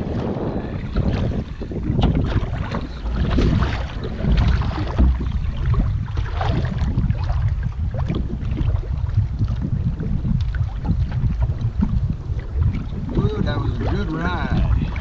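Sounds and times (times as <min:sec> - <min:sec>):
waves slapping a canoe hull: 0:00.0 - 0:15.0
wind rumbling on microphone: 0:00.0 - 0:15.0.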